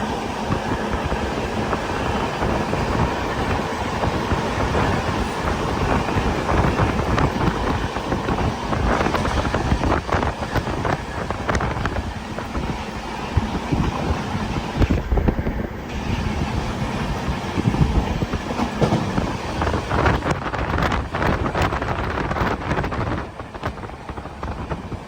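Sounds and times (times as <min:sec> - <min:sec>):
moving vehicle rumble: 0:00.0 - 0:25.0
wind buffeting microphone: 0:00.0 - 0:25.0.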